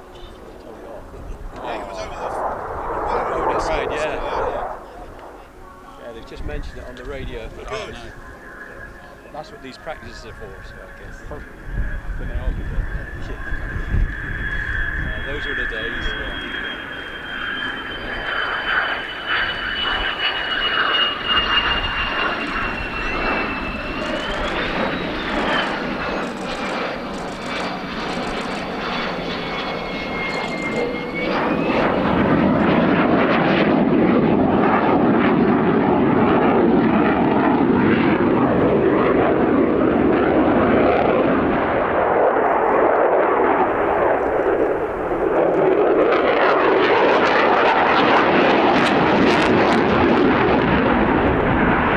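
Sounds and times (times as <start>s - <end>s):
aircraft engines passing: 0.0s - 51.9s.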